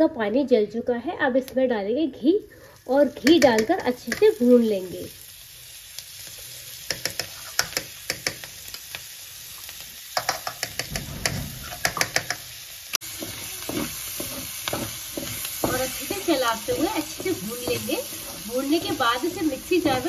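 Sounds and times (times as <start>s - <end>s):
low sizzle: 0.0s - 20.0s.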